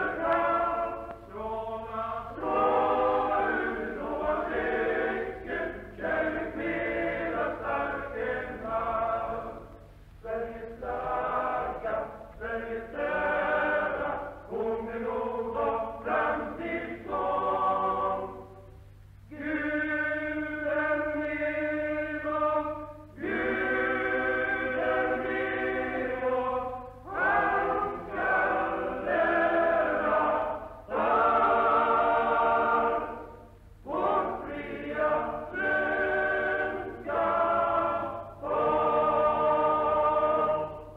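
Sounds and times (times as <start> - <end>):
male choir singing: 0.0 - 18.5, 19.3 - 40.9
steady low hum: 0.0 - 40.9.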